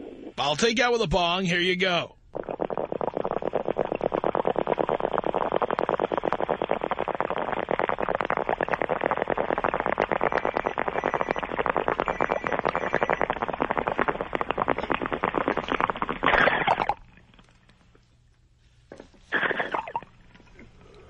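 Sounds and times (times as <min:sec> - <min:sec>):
water pipe bubbling: 0:02.2 - 0:21.0.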